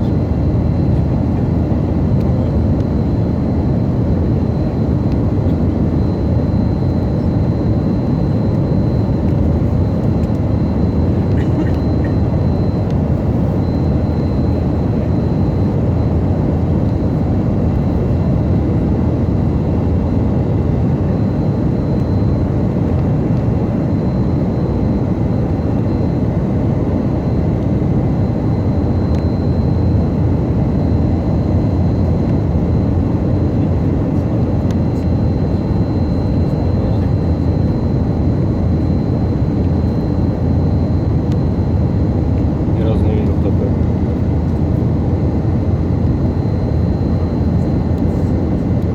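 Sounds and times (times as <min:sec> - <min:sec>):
aircraft cabin airflow and engine roar: 0:00.0 - 0:48.9
faint high whine: 0:00.0 - 0:48.9.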